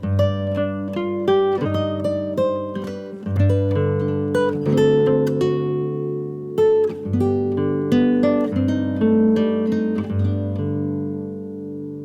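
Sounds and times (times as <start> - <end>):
acoustic guitar picking: 0.0 - 12.0.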